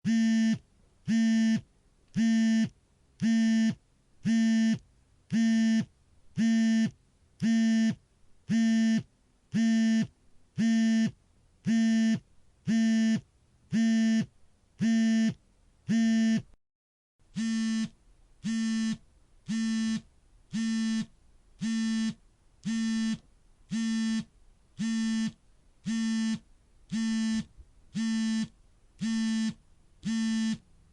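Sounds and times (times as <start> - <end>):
phone vibration buzzing: 0.1 - 16.6, 17.3 - 30.7.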